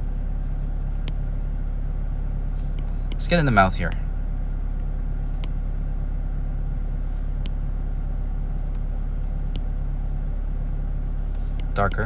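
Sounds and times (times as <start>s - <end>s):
constant hum: 0.0s - 12.0s
low background rumble: 0.0s - 12.0s.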